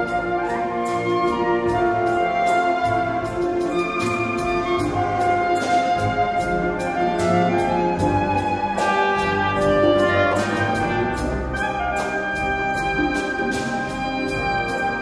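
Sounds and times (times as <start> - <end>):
soprano saxophone melody: 0.0 - 15.0
symphony orchestra: 0.0 - 15.0.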